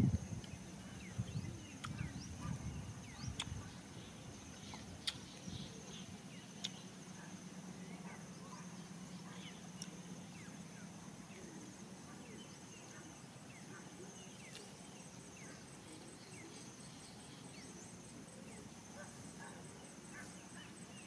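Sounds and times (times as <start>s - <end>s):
insects trilling: 0.0s - 21.0s
faint bird chirps: 0.4s - 21.0s.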